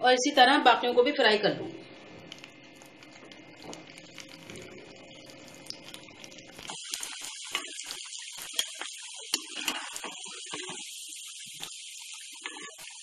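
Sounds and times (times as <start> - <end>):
hot oil sizzling and crackling: 1.8 - 13.0.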